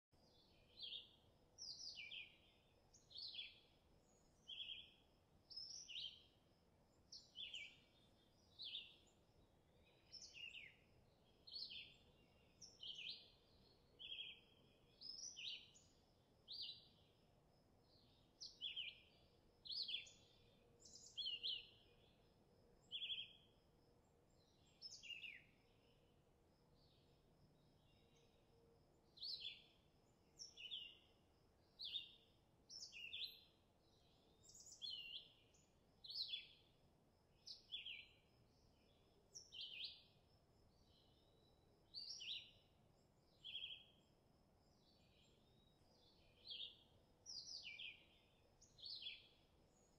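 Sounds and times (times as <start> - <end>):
bird chirping: 0.2 - 17.1, 17.8 - 22.2, 22.8 - 23.5, 24.2 - 36.7, 37.4 - 44.1, 44.8 - 49.9
faint background hiss: 0.2 - 49.9.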